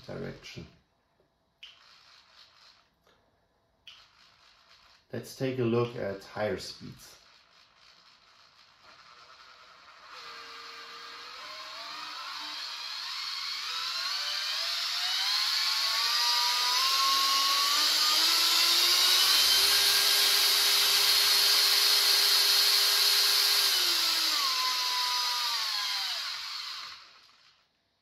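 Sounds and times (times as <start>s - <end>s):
drill motor whine: 1.6s - 2.9s, 3.9s - 5.1s, 7.2s - 27.6s.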